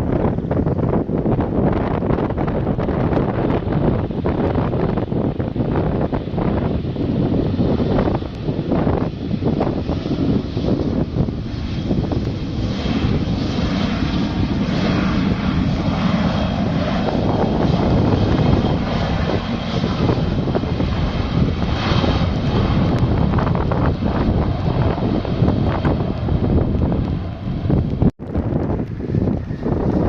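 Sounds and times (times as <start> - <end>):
airliner engines at takeoff: 0.0 - 30.0.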